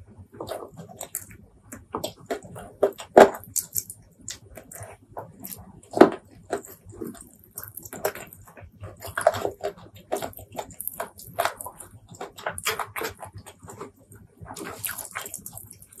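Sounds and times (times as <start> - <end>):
chewing and smacking mouth sounds: 0.2 - 16.0.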